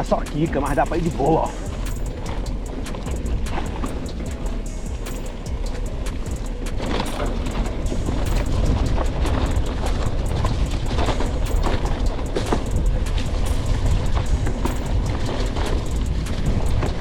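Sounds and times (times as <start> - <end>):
bike frame rattling and clattering: 0.0 - 17.0
wind and tyre rumble: 0.0 - 17.0.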